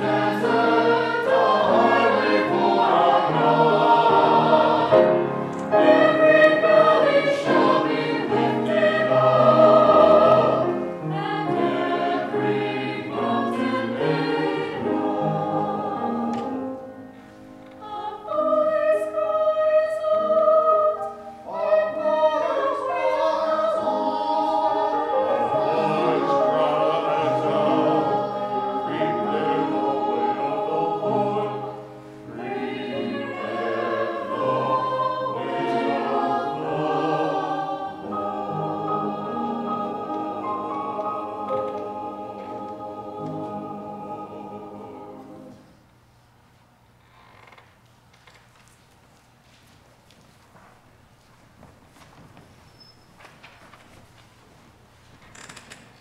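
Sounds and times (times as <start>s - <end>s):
church choir singing: 0.0s - 46.2s.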